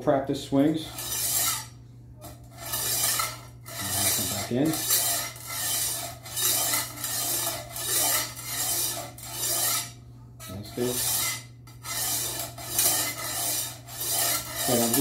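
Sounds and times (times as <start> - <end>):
sharpening plate rasping on blade: 0.9 - 15.0.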